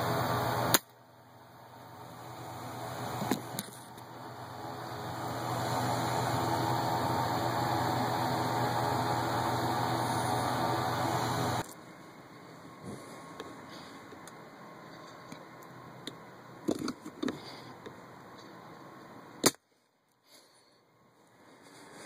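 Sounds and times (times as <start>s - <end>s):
motor hum: 0.0s - 18.2s.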